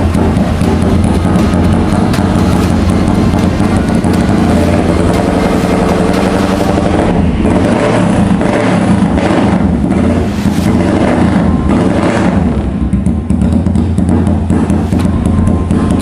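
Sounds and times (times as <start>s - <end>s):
motorcycle engine running steadily: 0.0s - 16.0s.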